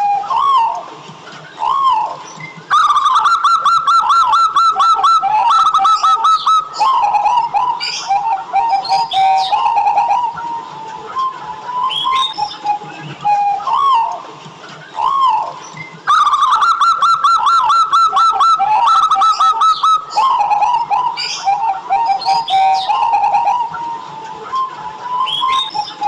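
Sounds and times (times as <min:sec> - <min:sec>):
dove cooing: 0:00.0 - 0:00.9, 0:01.5 - 0:14.2, 0:14.8 - 0:26.0.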